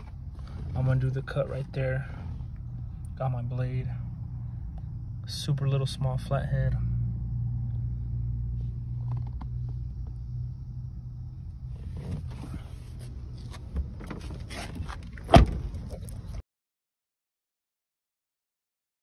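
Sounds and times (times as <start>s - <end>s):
low rumble: 0.0s - 16.4s.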